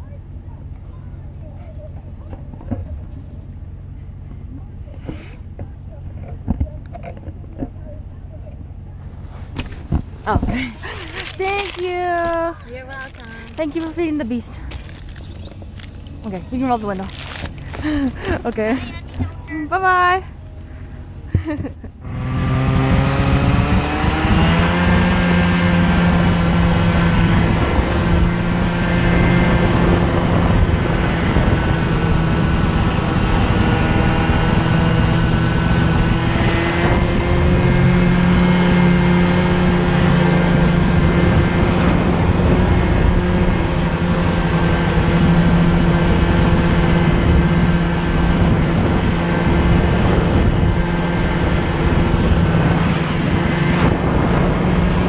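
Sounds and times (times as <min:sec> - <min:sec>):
snowmobile engine revving: 0:09.0 - 0:55.0.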